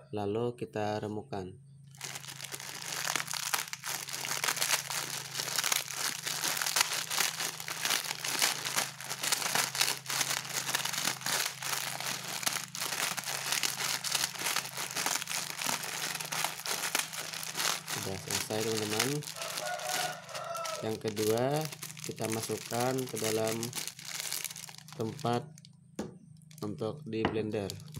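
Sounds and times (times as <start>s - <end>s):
dry noodles crunching: 1.9s - 25.6s, 27.6s - 27.9s
plastic wrapper crinkling: 1.9s - 25.7s, 26.4s - 26.8s, 27.5s - 27.9s.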